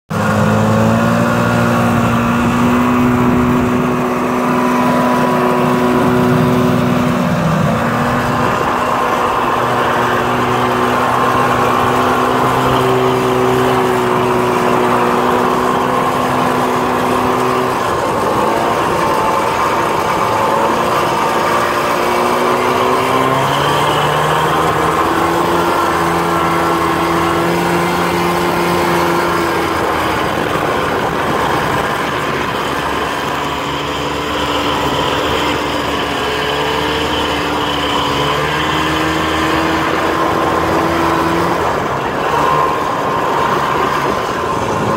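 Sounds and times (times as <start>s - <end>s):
snowmobile engines running: 0.1s - 44.9s.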